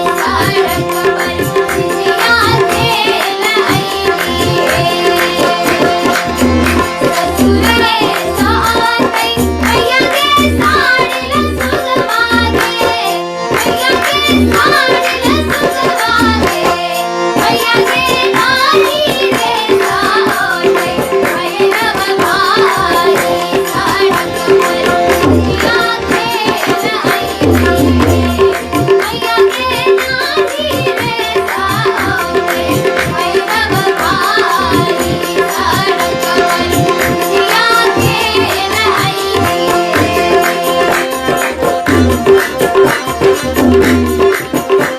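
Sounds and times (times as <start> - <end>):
tabla: 0.0 - 44.9.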